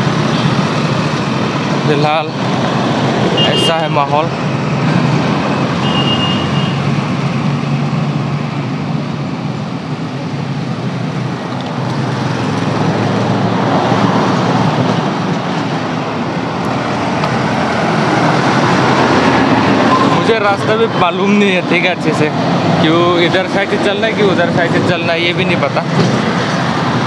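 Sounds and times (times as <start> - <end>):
highway traffic passing: 0.0 - 27.0.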